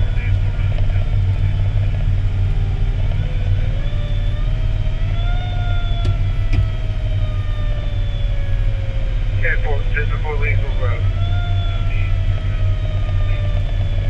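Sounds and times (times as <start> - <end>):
faint whine: 0.0 - 14.0
truck engine and road rumble: 0.0 - 14.0.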